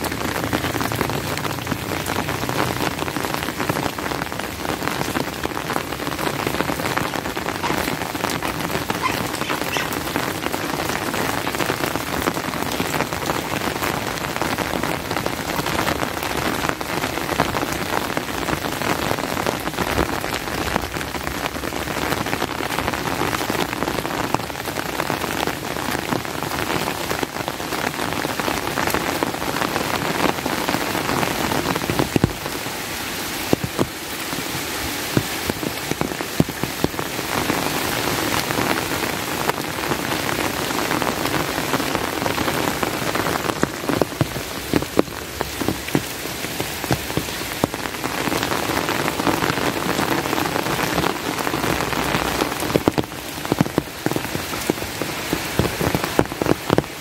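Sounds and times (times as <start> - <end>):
close raindrop hits ticking: 0.0 - 57.0
steady rain: 0.0 - 57.0.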